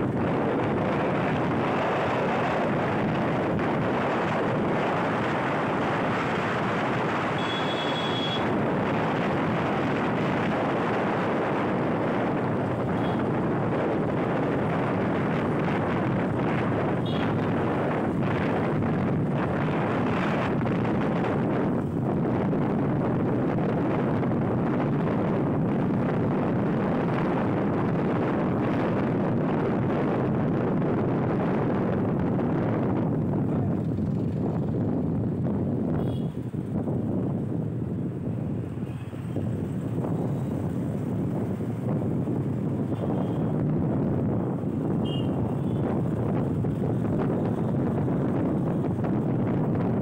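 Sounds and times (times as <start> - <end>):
wind on microphone: 0.0 - 7.5, 8.1 - 50.0
road and traffic noise: 0.0 - 50.0.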